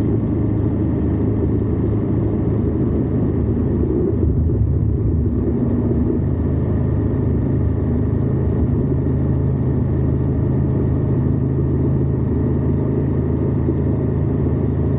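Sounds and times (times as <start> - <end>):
motorcycle engine low drone: 0.0 - 14.9.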